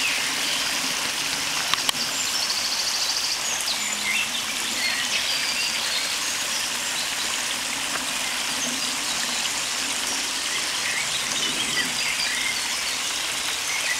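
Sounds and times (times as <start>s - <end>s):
water splashing into drain: 0.0s - 13.9s.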